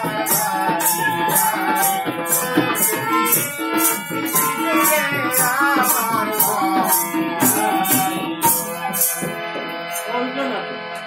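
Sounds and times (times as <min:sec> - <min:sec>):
hand drums: 0:00.0 - 0:10.0
wavering melodic line: 0:00.0 - 0:10.3
harmonium chords: 0:00.0 - 0:11.0.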